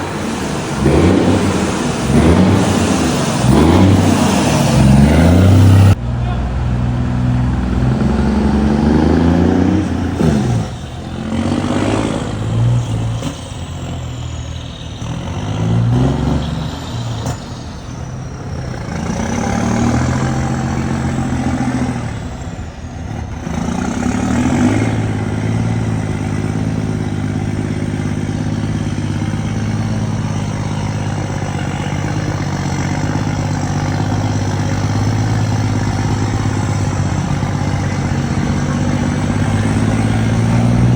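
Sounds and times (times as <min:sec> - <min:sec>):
truck diesel engine revving: 0:00.0 - 0:40.9.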